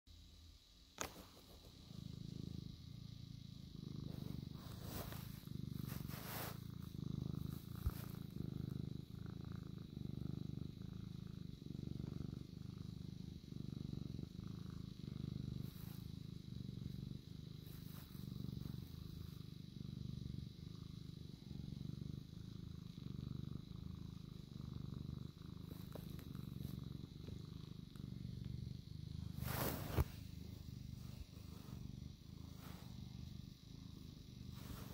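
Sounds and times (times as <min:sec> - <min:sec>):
cat purring: 0:00.9 - 0:34.9.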